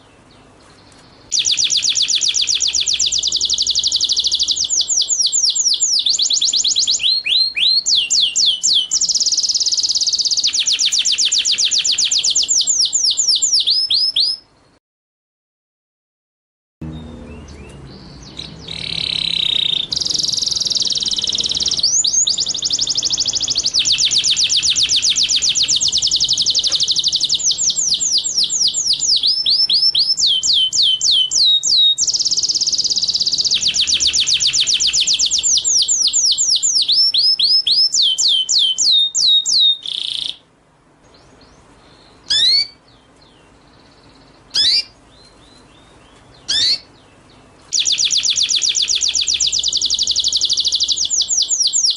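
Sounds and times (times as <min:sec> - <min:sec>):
sharp bird calls: 0:00.0 - 0:14.5, 0:16.8 - 0:40.4, 0:41.1 - 0:51.9
songbird high-pitched trills: 0:00.0 - 0:14.5, 0:16.8 - 0:40.4, 0:41.1 - 0:51.9.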